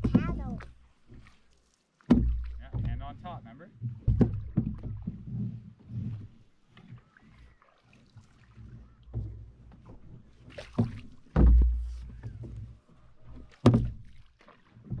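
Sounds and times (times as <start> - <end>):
paddle knocking against canoe: 0.0 - 15.0.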